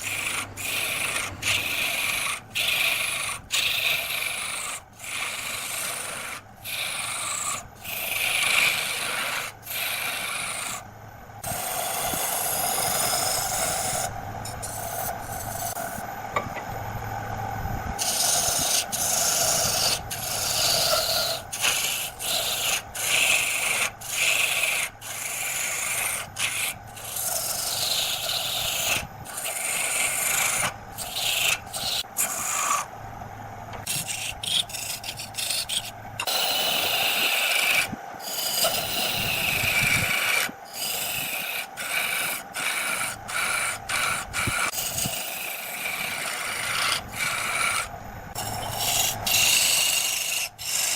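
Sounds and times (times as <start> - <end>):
turning tool scraping wood: 0.0 - 10.8, 18.0 - 32.9, 33.7 - 50.9
lathe humming: 0.0 - 50.9.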